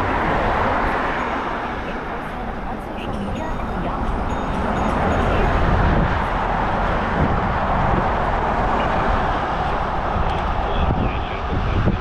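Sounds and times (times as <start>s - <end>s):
car road noise rumble: 0.0s - 12.0s.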